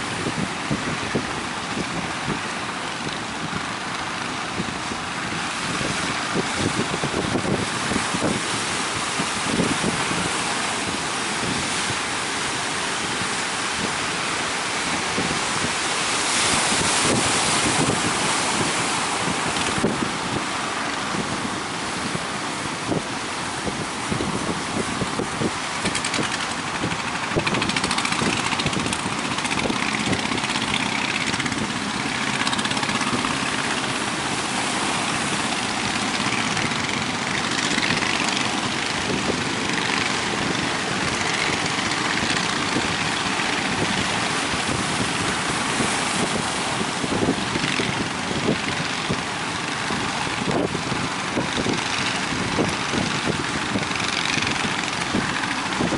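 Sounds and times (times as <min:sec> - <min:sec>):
boat engine running: 0:00.0 - 0:55.9
rush of wind and water: 0:00.0 - 0:55.9.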